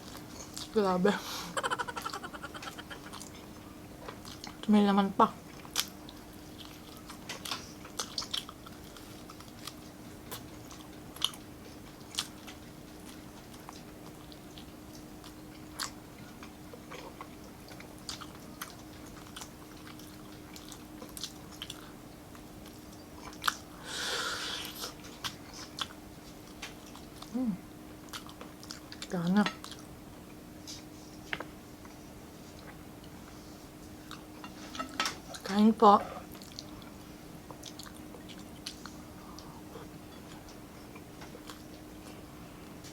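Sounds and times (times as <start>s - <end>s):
faint steady hum: 0.0s - 42.9s
chewing and lip-smacking: 1.6s - 4.7s, 5.4s - 23.7s, 24.6s - 27.4s, 28.0s - 35.5s, 36.3s - 42.9s.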